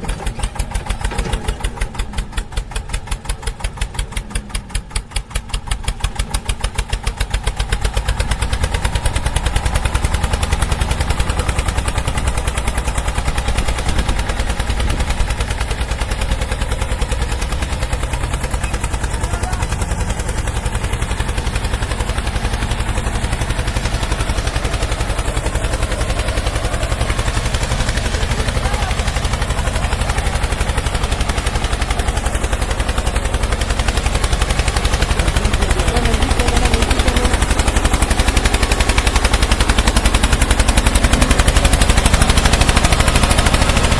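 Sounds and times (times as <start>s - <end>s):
vehicle engine pulsing: 0.0s - 43.9s.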